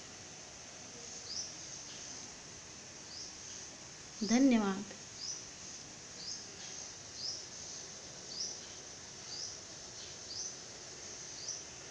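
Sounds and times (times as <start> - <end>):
faint steady hiss: 0.0 - 11.9.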